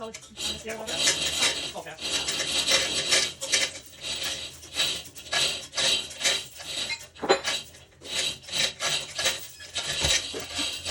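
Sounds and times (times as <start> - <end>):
hand tool rasping strokes: 0.0 - 10.9.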